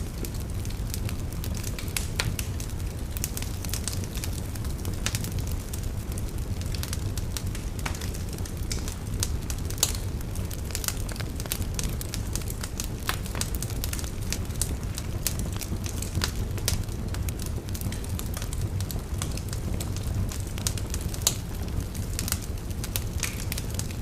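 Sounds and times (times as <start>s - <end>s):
fire crackling and popping: 0.0s - 24.0s
fire flames rumbling: 0.0s - 24.0s.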